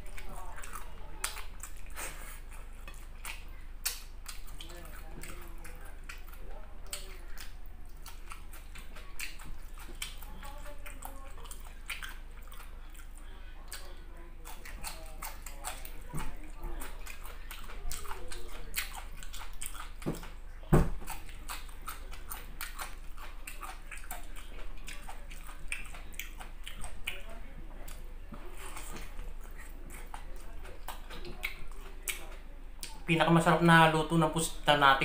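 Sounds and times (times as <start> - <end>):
wet chewing and lip smacking: 0.0 - 33.7.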